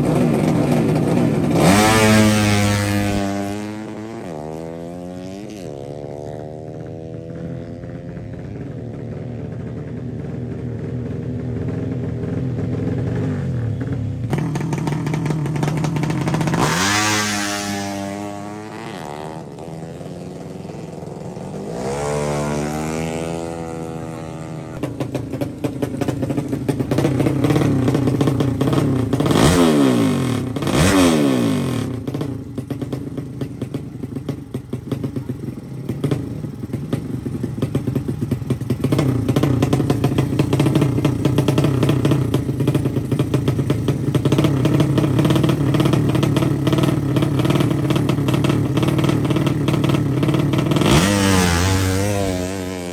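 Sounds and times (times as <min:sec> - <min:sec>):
motorcycle engines revving high: 0:00.0 - 0:52.9.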